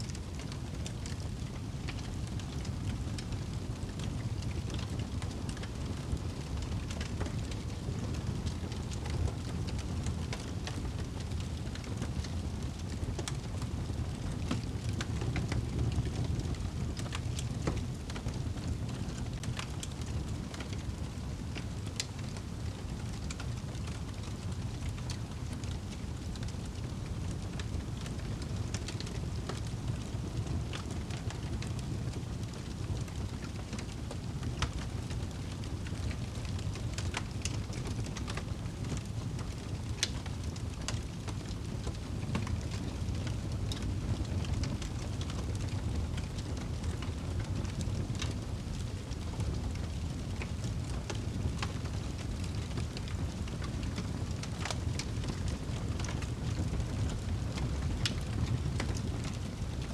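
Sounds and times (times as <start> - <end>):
fire low rumble: 0.0 - 59.9
fire crackling and popping: 0.1 - 59.9.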